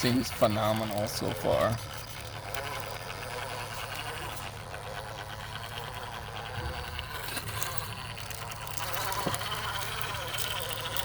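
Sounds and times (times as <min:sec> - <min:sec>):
rc crawler motor whirring: 0:00.0 - 0:11.0.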